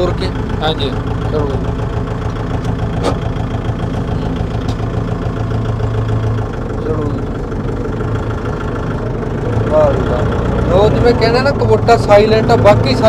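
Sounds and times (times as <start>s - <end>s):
tractor diesel engine humming: 0.0s - 13.0s.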